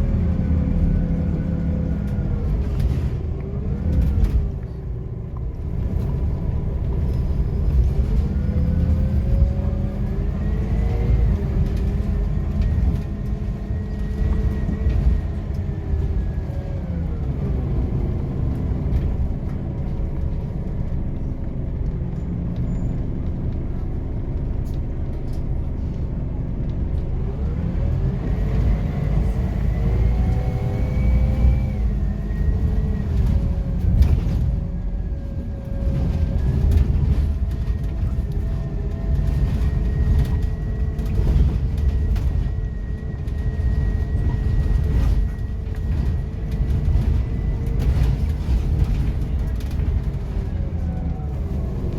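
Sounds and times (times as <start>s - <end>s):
bus engine rumble with whine: 0.0s - 51.9s.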